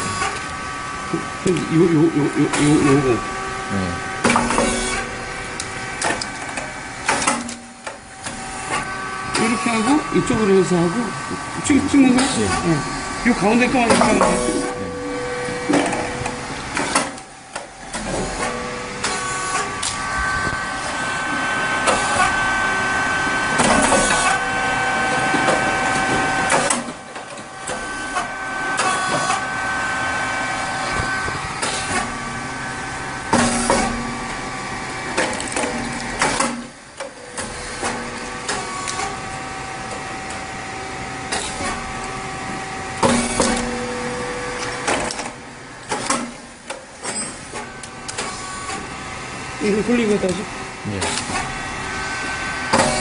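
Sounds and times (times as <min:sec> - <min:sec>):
machine humming with held tones: 0:00.0 - 0:53.0.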